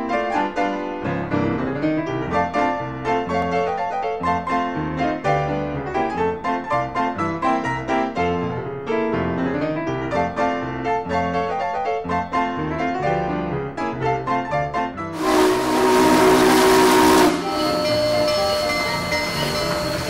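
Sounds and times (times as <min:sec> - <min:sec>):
piano run: 0:00.0 - 0:20.0.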